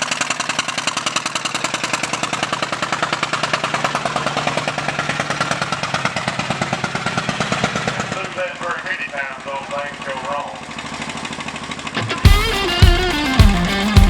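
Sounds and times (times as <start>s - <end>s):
loud pulling vehicle engine: 0.0s - 12.4s.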